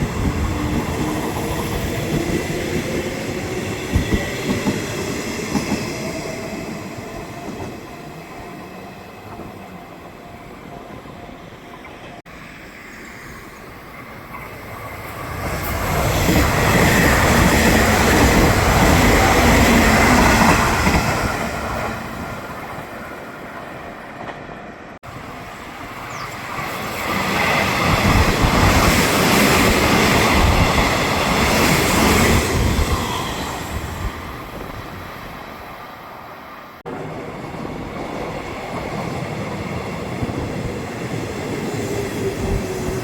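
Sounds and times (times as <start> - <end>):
electric train passing: 0.0 - 43.0.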